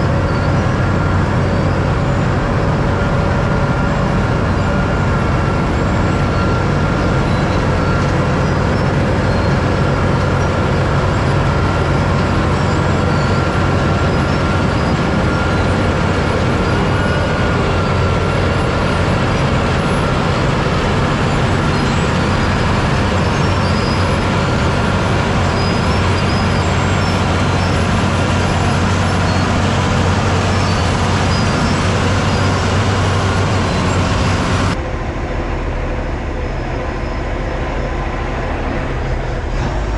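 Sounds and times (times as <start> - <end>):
diesel truck engine running: 0.0 - 39.9
road noise: 0.0 - 39.9.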